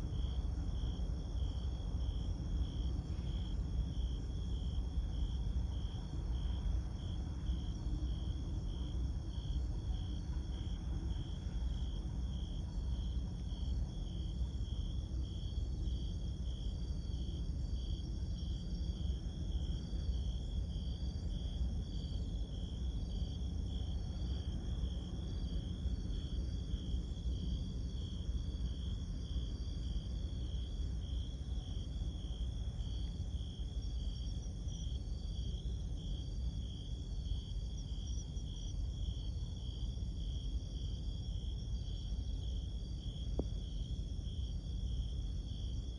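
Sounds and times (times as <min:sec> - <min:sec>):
crickets chirping: 0:00.0 - 0:45.9
high insect song: 0:00.0 - 0:45.9.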